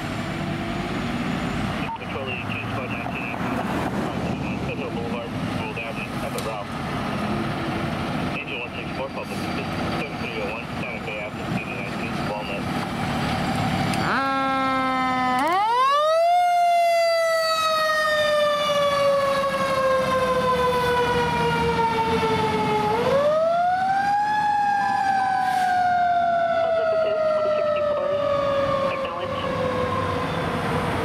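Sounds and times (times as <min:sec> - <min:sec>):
fire engine siren wailing: 0:00.0 - 0:31.0.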